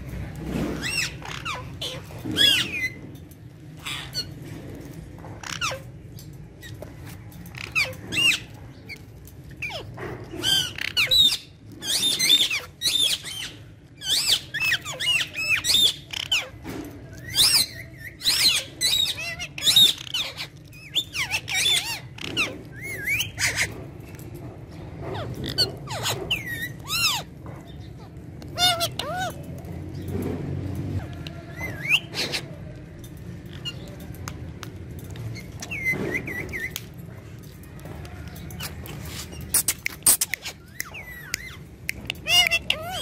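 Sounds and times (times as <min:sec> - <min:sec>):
parakeets squawking and screeching: 0:00.0 - 0:43.0.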